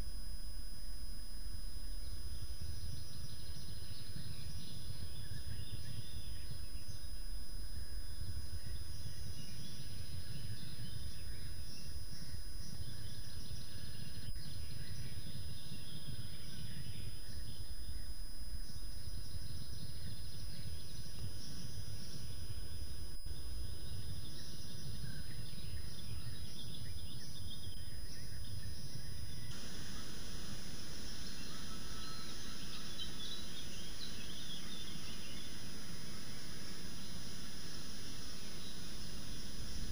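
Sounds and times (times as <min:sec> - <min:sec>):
distant birdsong: 0:00.0 - 0:39.9.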